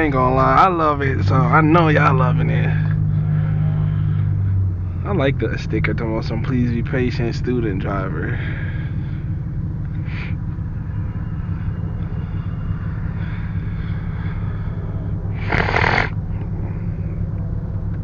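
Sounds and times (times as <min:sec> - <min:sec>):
car engine drone and road noise: 0:00.0 - 0:18.0.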